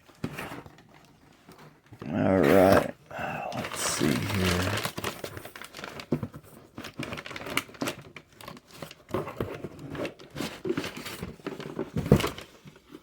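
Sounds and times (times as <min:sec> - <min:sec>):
cardboard box crinkling and tearing: 0:00.0 - 0:13.0.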